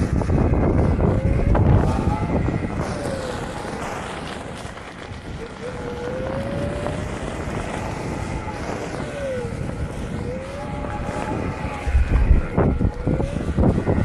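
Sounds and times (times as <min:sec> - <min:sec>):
electric motor whining: 0:00.0 - 0:14.0
wind rumble on microphone: 0:00.0 - 0:14.0.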